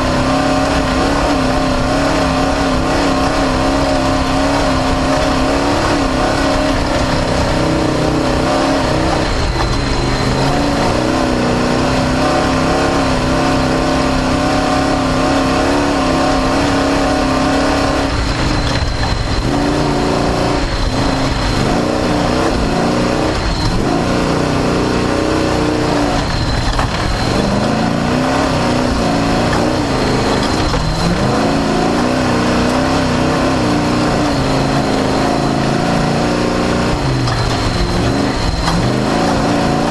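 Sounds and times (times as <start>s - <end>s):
race car engine revving: 0.0s - 39.9s
rushing noise: 0.0s - 39.9s.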